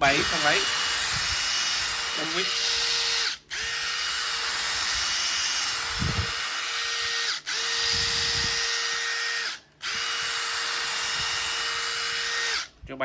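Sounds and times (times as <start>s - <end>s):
impact driver whining: 0.0s - 12.8s.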